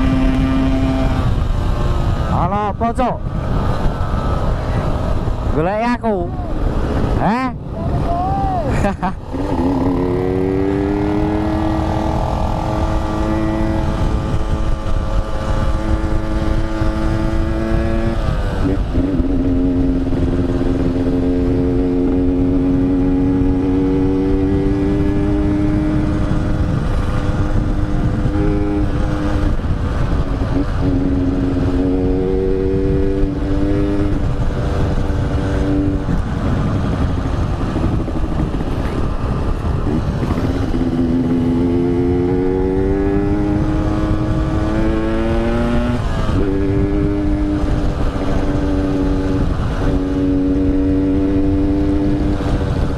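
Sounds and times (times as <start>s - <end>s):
motorcycle engine running hard: 0.0s - 52.9s
wind rumble on microphone: 0.0s - 52.9s.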